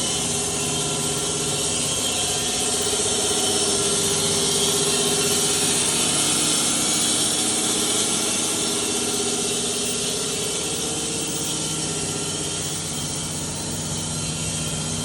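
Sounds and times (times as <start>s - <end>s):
sawmill droning with high hiss: 0.0s - 15.0s.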